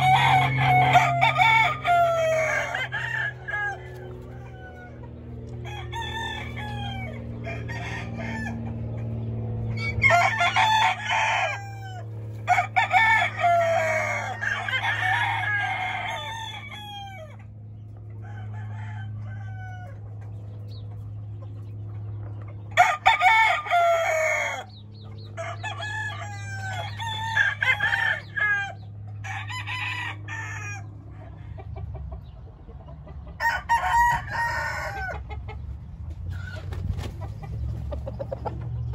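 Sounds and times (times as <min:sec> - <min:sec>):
chickens clucking: 0:00.0 - 0:38.9
roosters crowing: 0:00.0 - 0:38.9
steady low hum: 0:00.0 - 0:38.9.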